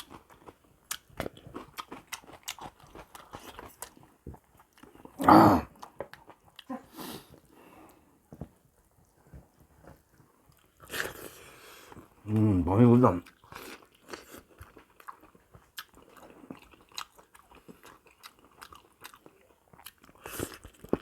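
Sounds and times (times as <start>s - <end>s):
person chewing and gnawing: 0.0s - 7.5s, 9.0s - 12.5s, 13.1s - 21.0s.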